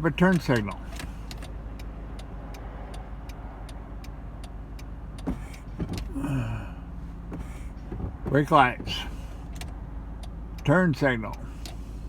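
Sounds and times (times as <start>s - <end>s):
turn-signal flasher ticking: 0.0s - 6.2s, 6.8s - 12.0s
car engine idling: 0.0s - 12.0s.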